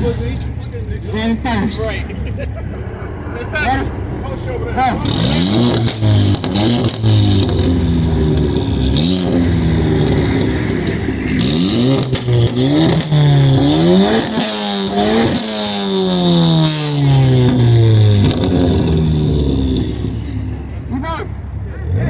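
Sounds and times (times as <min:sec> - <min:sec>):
car engines revving: 0:00.0 - 0:22.0
sharp exhaust cracks: 0:00.0 - 0:22.0.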